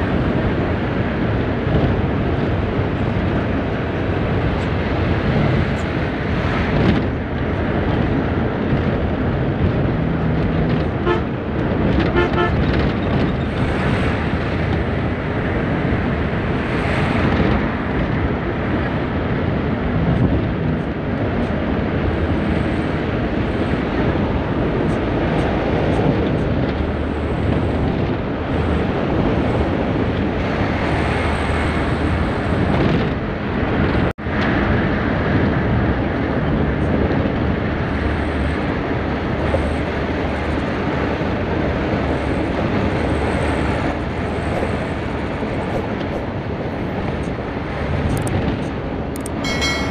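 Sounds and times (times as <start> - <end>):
bus engine rumble: 0.0 - 49.9
tyre and road noise: 0.0 - 49.9.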